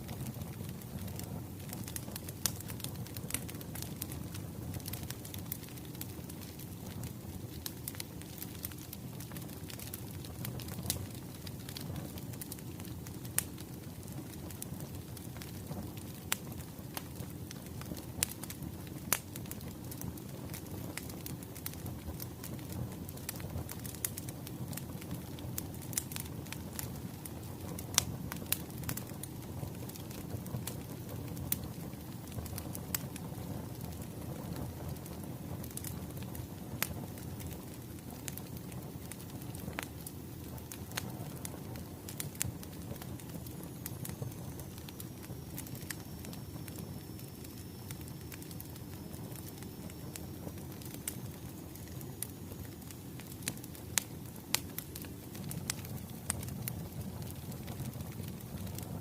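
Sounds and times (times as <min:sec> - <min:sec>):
sharp fire pops: 0:00.0 - 0:59.0
wood fire crackling: 0:00.0 - 0:59.0.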